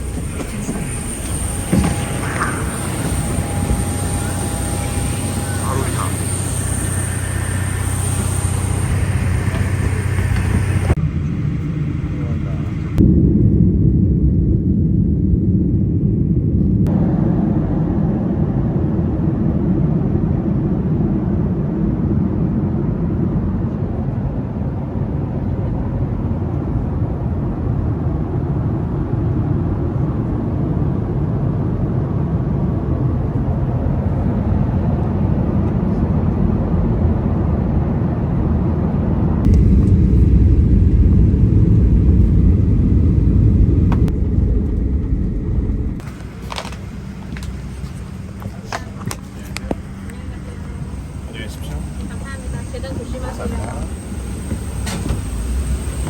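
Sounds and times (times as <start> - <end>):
vehicle engine rumble: 0.0 - 18.8, 29.6 - 56.0.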